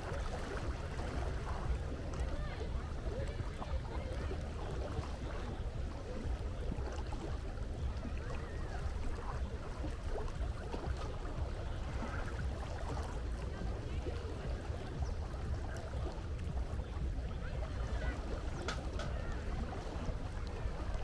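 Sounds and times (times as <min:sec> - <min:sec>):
low rumble of sea and wind: 0:00.0 - 0:21.0.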